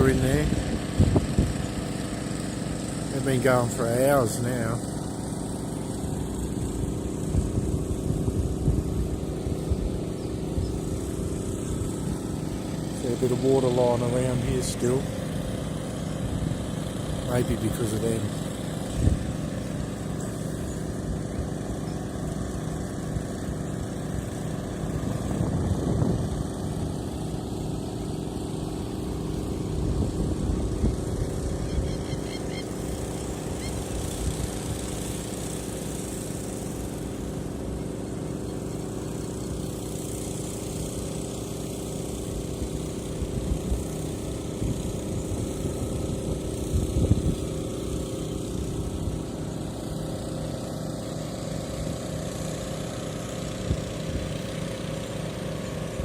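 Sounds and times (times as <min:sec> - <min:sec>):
engine-driven pumps humming: 0:00.0 - 0:56.0.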